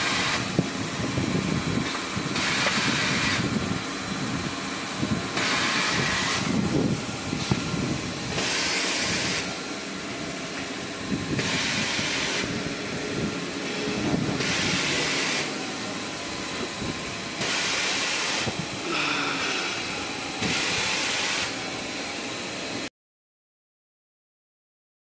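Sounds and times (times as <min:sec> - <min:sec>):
machine mechanical hum: 0:00.0 - 0:22.9.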